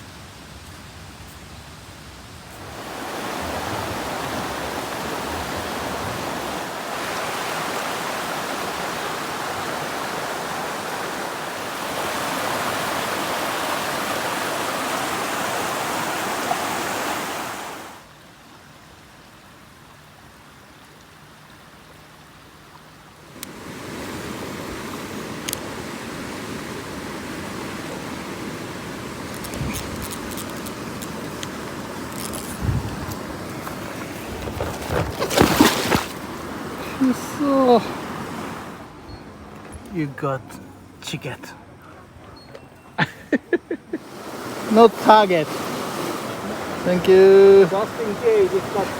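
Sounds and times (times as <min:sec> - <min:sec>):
rushing mountain stream: 0:00.0 - 0:40.4, 0:43.6 - 0:48.9.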